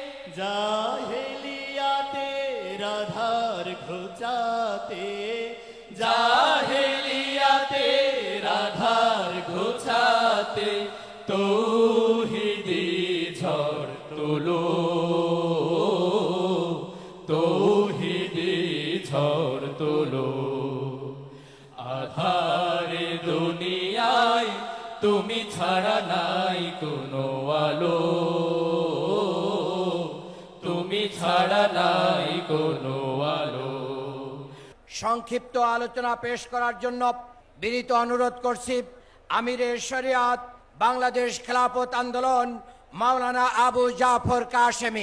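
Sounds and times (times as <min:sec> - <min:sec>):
person chanting: 0:00.0 - 0:45.0.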